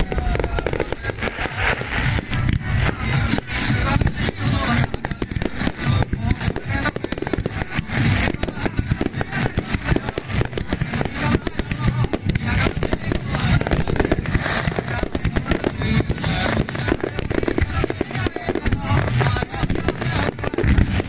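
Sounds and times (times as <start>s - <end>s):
firework shells bursting: 0.0s - 21.0s
music playing: 0.0s - 21.0s.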